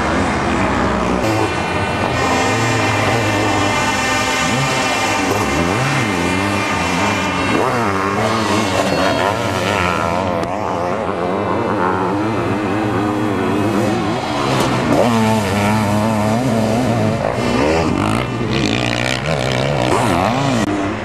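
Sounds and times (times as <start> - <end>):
motocross engines revving: 0.0 - 21.0.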